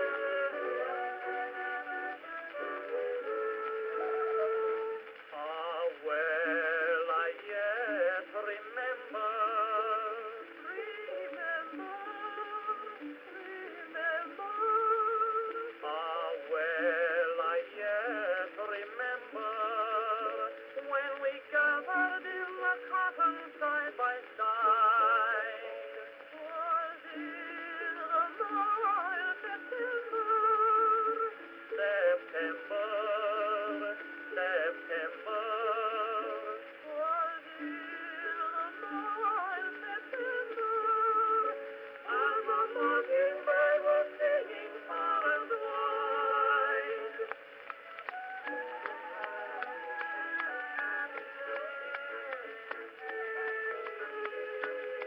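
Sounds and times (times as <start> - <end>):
soprano and tenor duet singing: 0.0 - 55.0.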